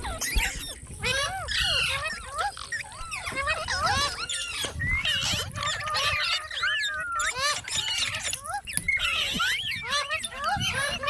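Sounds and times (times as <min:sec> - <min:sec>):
parakeets chattering and squawking: 0:00.0 - 0:11.0.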